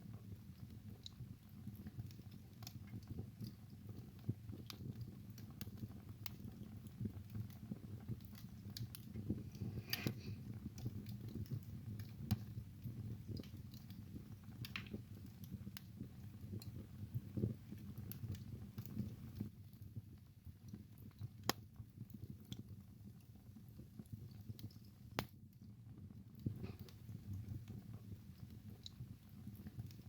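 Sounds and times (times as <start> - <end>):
fire crackling and popping: 0.0 - 30.0
fire flames rumbling: 0.0 - 30.0.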